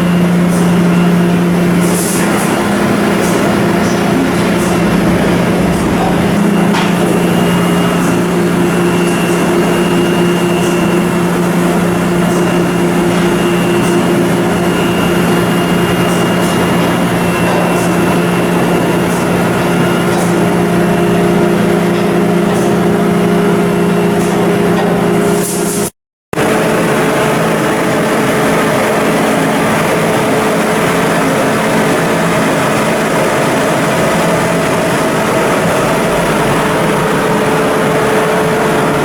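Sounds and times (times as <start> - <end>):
machinery drone: 0.0 - 25.4, 26.4 - 39.0.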